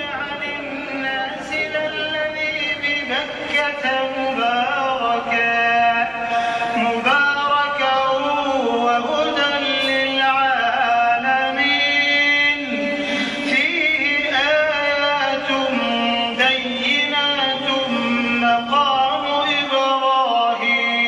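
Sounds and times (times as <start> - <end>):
person chanting: 0.0 - 21.0.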